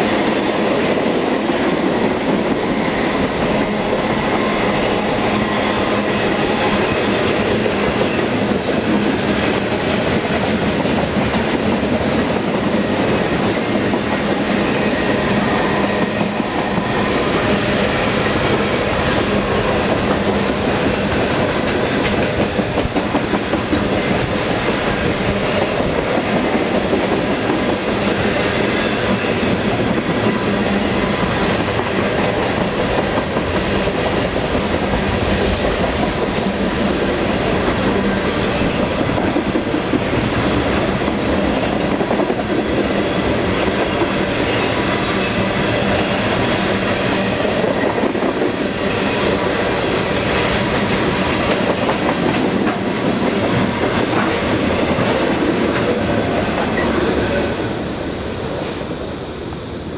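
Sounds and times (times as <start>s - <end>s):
train wheels clattering on rails: 0.0s - 59.1s.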